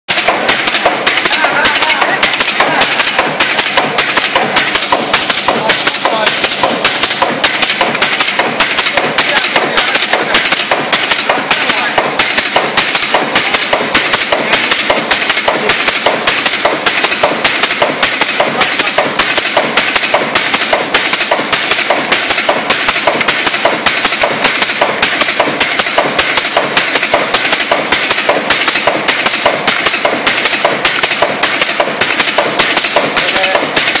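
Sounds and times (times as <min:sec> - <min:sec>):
stapling machine clattering: 0:00.1 - 0:34.0.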